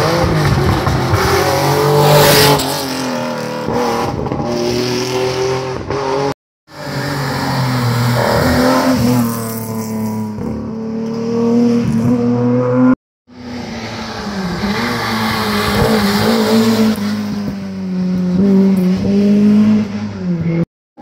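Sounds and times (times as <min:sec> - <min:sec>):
rally car engines revving: 0:00.0 - 0:20.7.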